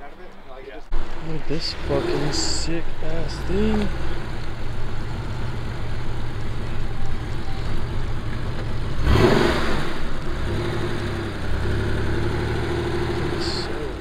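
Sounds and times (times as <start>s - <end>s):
car engine passing: 0.9s - 14.0s
engine revving: 1.0s - 14.0s.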